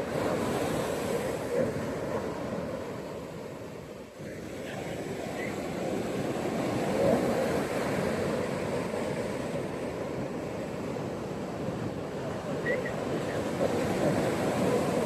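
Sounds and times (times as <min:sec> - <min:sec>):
ocean surf on beach: 0:00.0 - 0:15.0.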